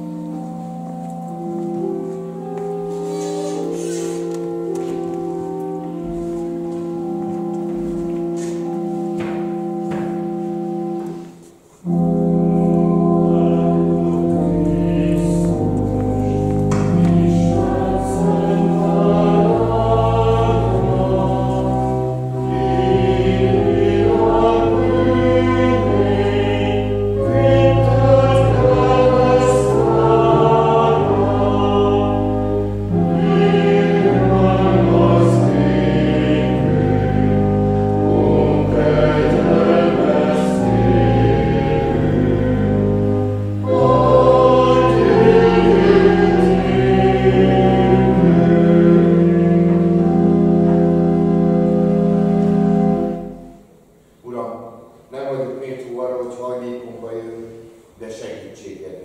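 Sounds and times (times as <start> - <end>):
voices singing a hymn: 0.0 - 53.7
church organ chords: 0.0 - 58.0.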